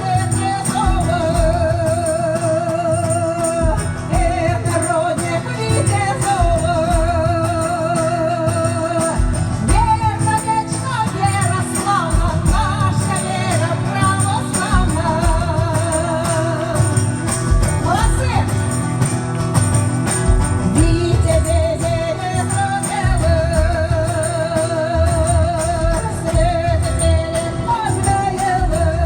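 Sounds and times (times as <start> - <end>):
person singing with vibrato: 0.0 - 19.6, 20.6 - 29.0.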